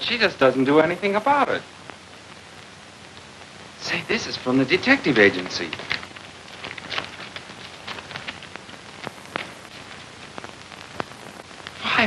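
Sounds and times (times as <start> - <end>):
film soundtrack hiss: 0.0 - 12.0
faint clicks and crackles: 1.1 - 12.0.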